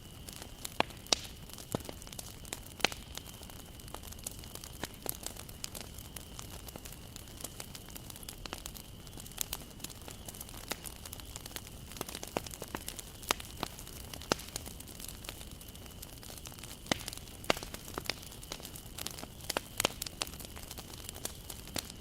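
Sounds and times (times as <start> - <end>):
bonfire crackling and popping: 0.0 - 22.0
flames hissing: 0.0 - 22.0.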